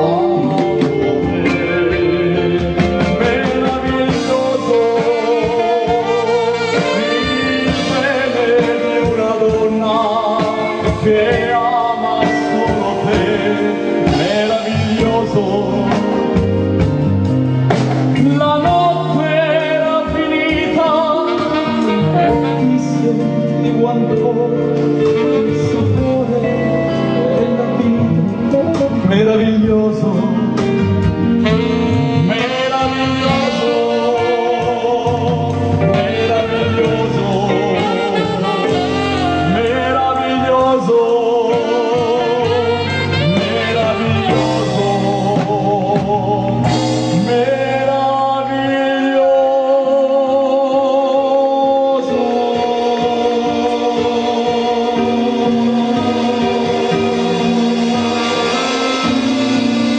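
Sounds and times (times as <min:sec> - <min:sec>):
guitar: 0:00.0 - 0:59.9
man singing with vibrato: 0:00.0 - 0:59.9
saxophone: 0:00.0 - 0:59.9.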